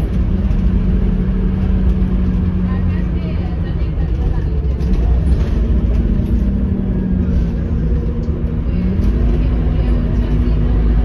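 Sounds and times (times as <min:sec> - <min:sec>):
bus engine rumble from inside: 0:00.0 - 0:11.0.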